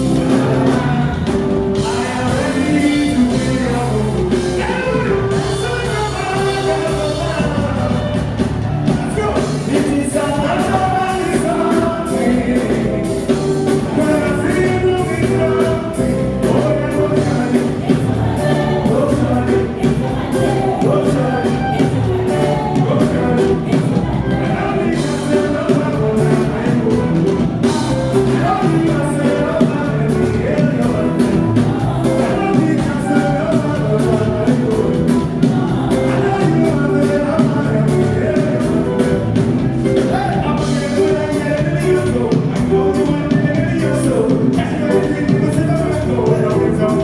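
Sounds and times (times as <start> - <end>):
live band music: 0.0 - 47.0
steady drum beat: 0.0 - 47.0
voices singing: 0.0 - 47.0.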